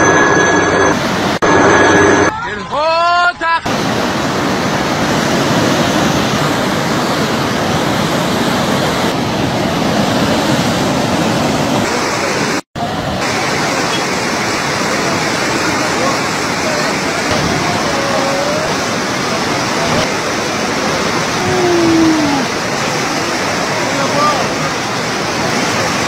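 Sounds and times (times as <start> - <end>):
floodwater rushing: 3.6 - 26.0.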